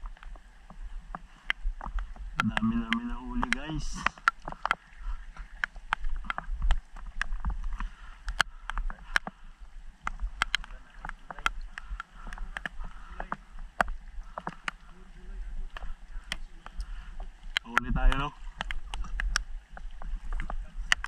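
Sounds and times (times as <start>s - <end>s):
low rumble of moving water: 0.0s - 21.0s
water splashing from wading: 0.0s - 21.0s.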